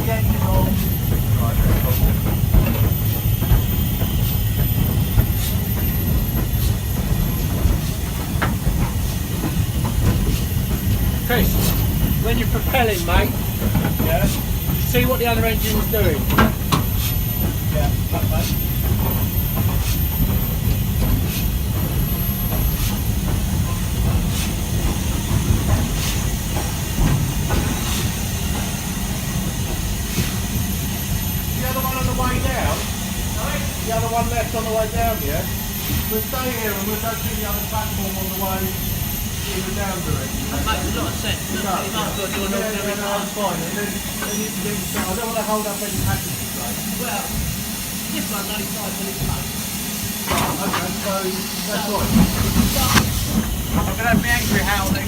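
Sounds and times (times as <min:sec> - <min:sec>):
steam hiss: 0:00.0 - 0:55.0
train wheels rumbling on rail: 0:00.0 - 0:55.0.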